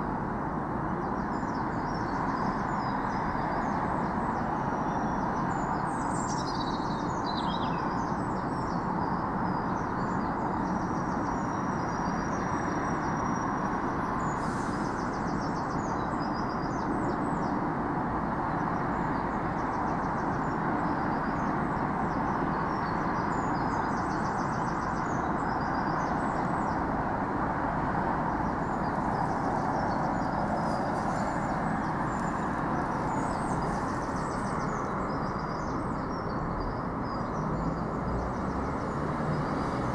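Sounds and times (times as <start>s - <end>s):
small birds chirping faintly: 0.8s - 39.9s.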